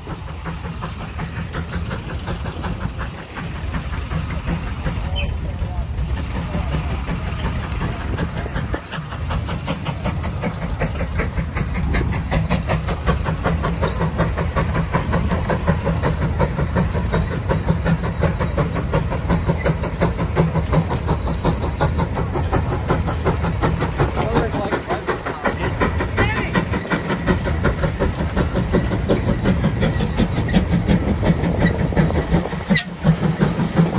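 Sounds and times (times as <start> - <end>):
steam engine exhaust chuffing: 0.0 - 33.9.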